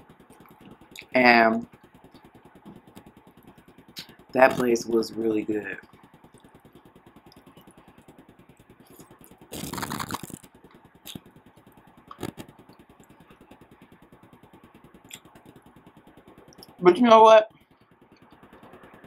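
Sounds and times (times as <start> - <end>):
fast-pulsing background hum: 0.0 - 19.0.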